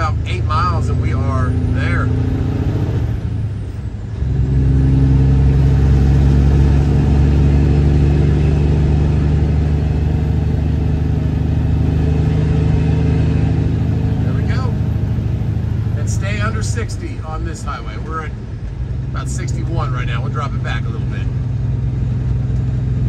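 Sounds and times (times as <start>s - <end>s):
truck diesel engine accelerating: 0.0s - 23.0s.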